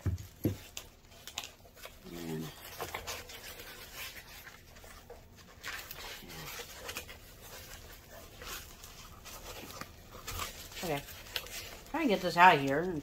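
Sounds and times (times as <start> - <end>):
foam sheet rustling on cardboard: 0.0 - 13.0.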